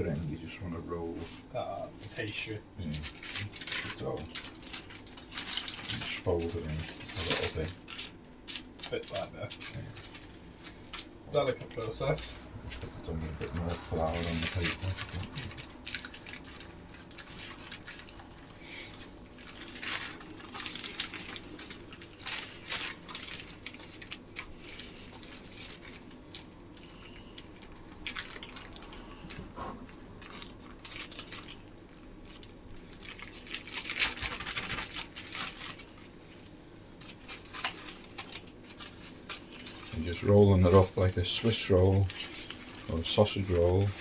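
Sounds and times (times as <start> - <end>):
baking paper rustling: 0.0 - 44.0.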